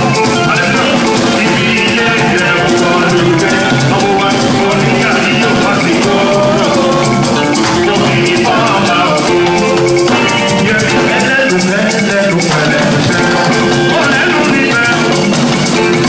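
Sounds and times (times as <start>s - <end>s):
live band playing: 0.0s - 16.0s
shaker rattling: 0.0s - 16.0s.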